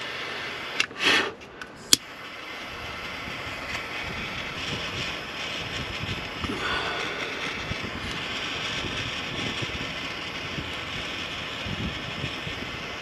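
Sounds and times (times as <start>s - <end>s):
torch clicking: 0.0s - 13.0s
torch flame hissing: 0.0s - 13.0s.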